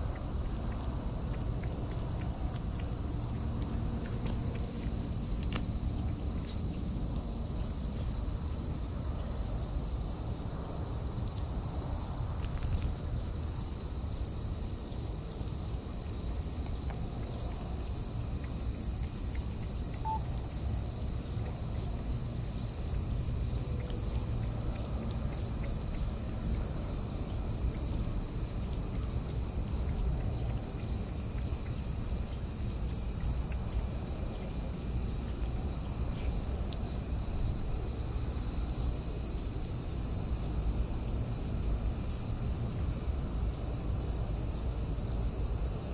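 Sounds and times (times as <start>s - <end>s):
shrill insect chorus: 0.0s - 45.9s.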